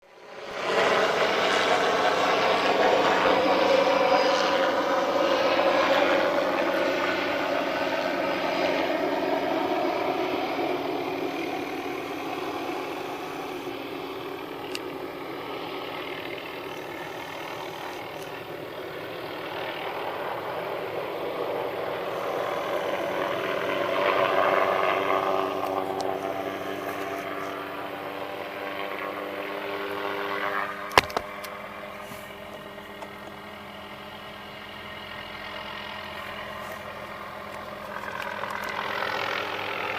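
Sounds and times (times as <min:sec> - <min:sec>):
engine running: 0:00.4 - 0:39.9.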